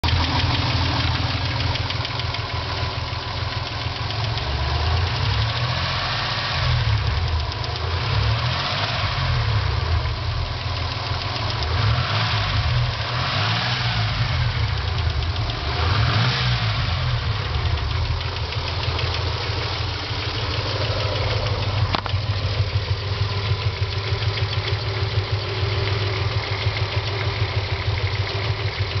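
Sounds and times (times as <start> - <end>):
car engine revving and idling: 0.0 - 29.0
engine ticking: 0.0 - 29.0.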